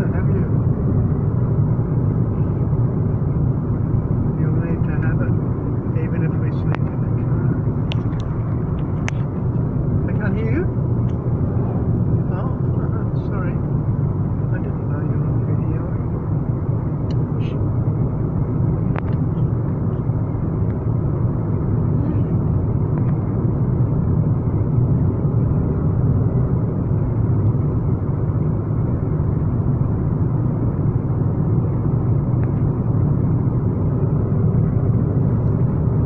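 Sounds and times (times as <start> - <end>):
vehicle cabin rumble: 0.0 - 36.0.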